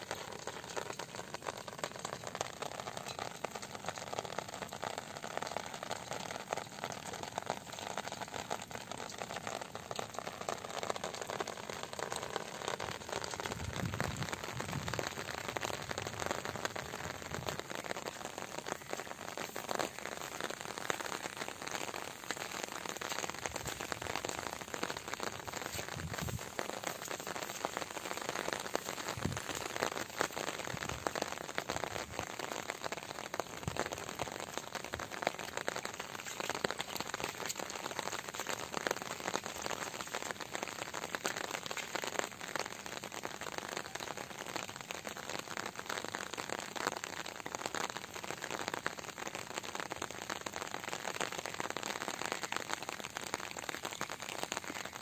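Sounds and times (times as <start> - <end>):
rain falling on water and grass: 0.0 - 55.0.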